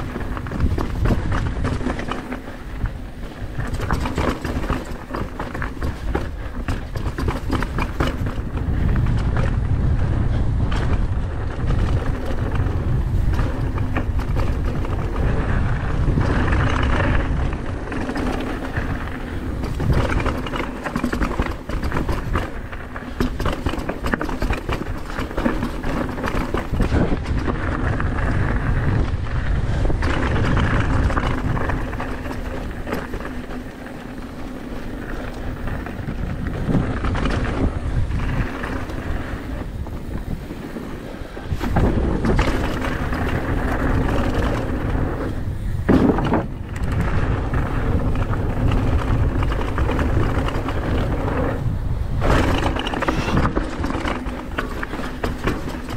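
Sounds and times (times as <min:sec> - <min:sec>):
bike clattering and rattling: 0:00.0 - 0:55.9
bike tyres crunching over ground: 0:00.0 - 0:55.9
wind rumble on microphone: 0:00.0 - 0:55.9.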